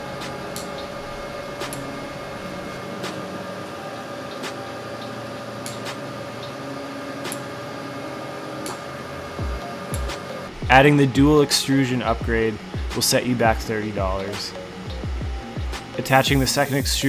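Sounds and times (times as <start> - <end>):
fans humming: 0.0 - 17.0
stepper motor tones: 0.0 - 17.0.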